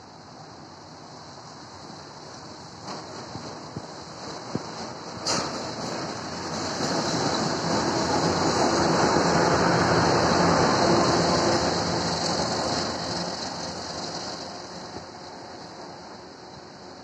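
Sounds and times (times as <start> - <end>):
diesel locomotive running past: 0.0 - 17.0.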